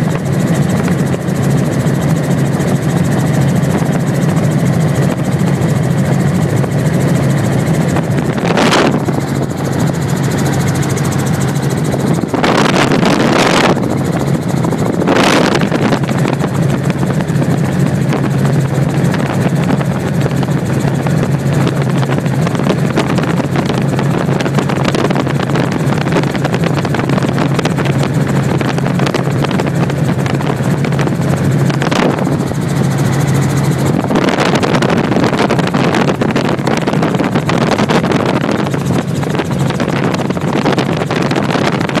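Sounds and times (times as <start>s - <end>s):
helicopter engine and rotor drone: 0.0s - 42.0s.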